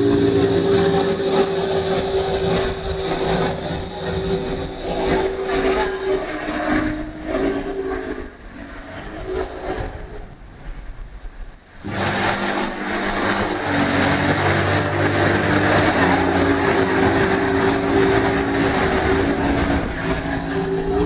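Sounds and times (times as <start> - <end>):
boat motor running: 0.0 - 21.0
water rushing: 0.0 - 21.0
wind: 0.0 - 21.0.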